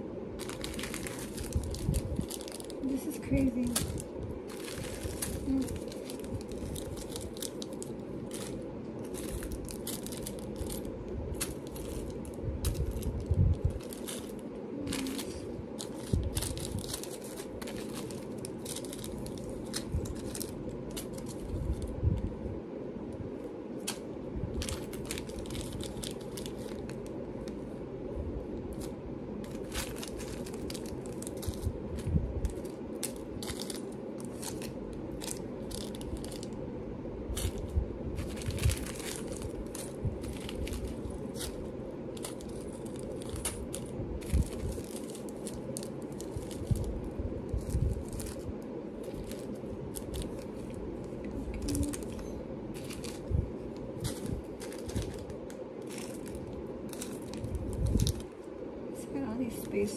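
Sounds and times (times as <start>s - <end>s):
steady low hum: 0.0s - 59.9s
plastic bags crinkling: 0.3s - 22.0s, 23.8s - 27.6s, 28.6s - 36.6s, 37.3s - 58.4s.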